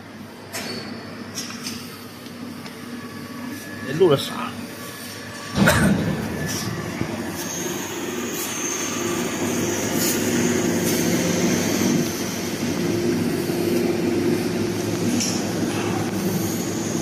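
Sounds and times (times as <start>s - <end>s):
machinery drone with low hum: 0.0s - 17.0s.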